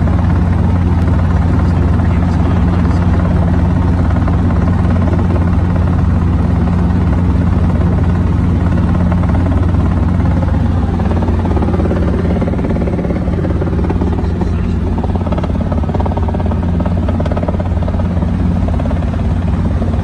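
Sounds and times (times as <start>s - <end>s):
helicopter rotor and engine noise: 0.0s - 20.0s.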